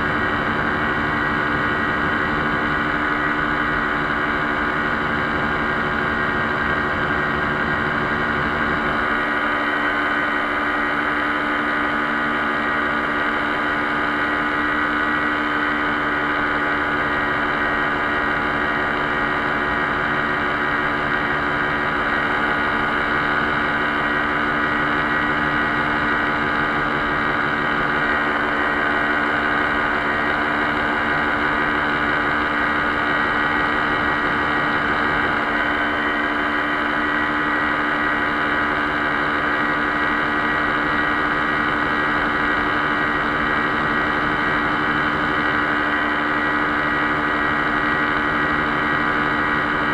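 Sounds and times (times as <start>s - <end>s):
paramotor engine drone: 0.0s - 49.9s.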